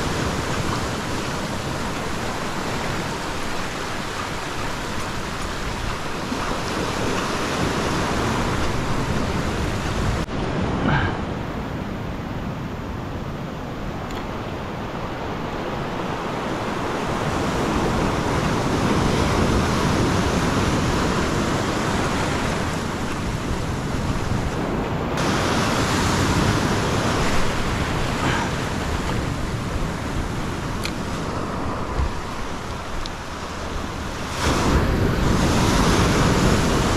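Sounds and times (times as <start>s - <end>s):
ocean surf breaking over rocks: 0.0s - 36.9s.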